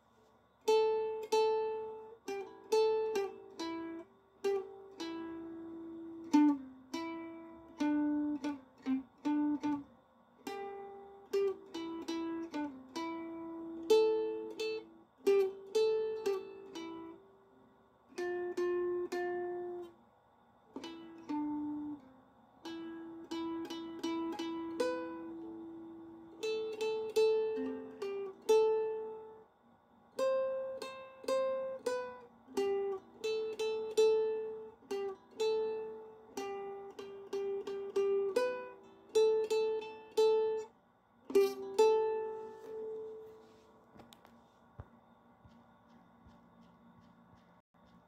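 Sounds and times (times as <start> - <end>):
plucked ukulele melody: 0.6 - 17.3, 18.1 - 20.0, 20.7 - 29.4, 30.2 - 40.7, 41.3 - 43.6.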